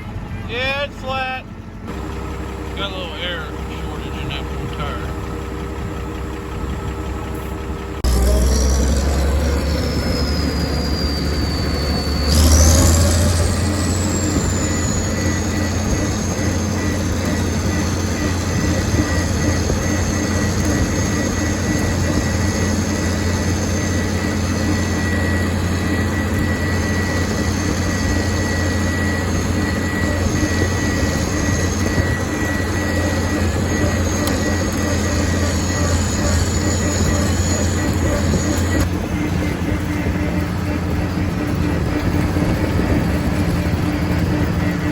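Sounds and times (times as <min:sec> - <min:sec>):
tractor engine running: 0:00.0 - 0:44.9
thin high whine: 0:07.4 - 0:44.9.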